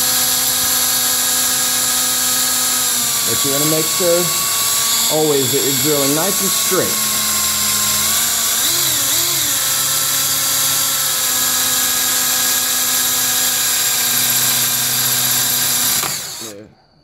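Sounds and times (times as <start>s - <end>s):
power drill boring into metal: 0.0s - 16.6s.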